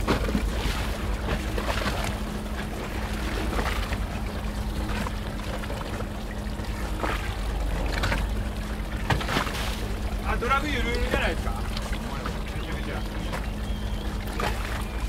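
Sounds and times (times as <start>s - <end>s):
boat engine humming: 0.0s - 15.0s
water splashing and trickling: 0.0s - 15.0s.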